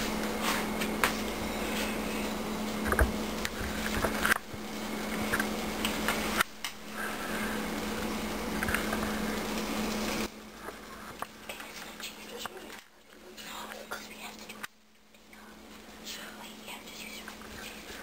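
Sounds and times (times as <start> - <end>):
low hum: 0.0 - 18.0
tortilla frying hiss: 0.0 - 18.0.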